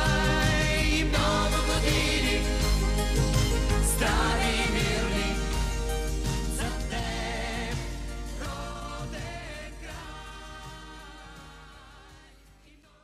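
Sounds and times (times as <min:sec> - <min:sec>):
background music with singing: 0:00.0 - 0:13.0.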